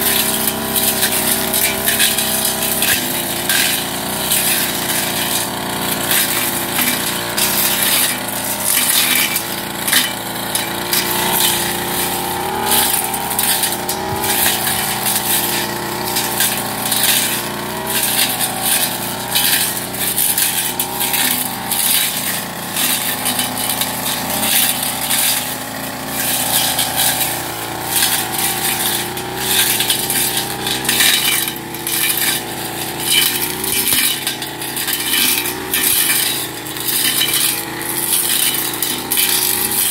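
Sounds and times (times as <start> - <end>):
brush cutter engine running: 0.0 - 39.9
cutting head striking stems: 0.0 - 39.9.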